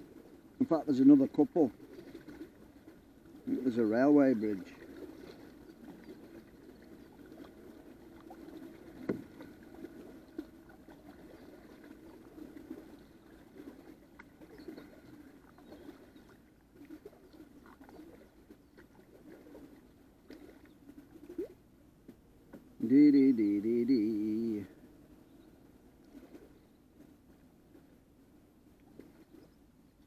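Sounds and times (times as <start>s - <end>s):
paddle splashing in water: 0.0s - 29.7s.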